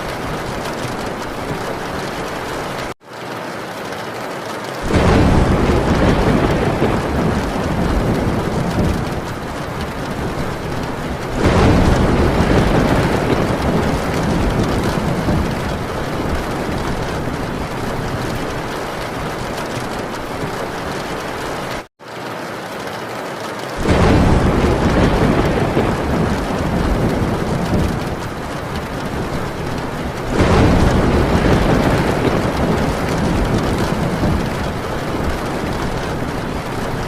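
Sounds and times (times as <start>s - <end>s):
thunder rolling: 0.0s - 2.9s, 4.8s - 21.9s, 23.8s - 37.0s
heavy rain on a tin roof: 0.0s - 37.0s.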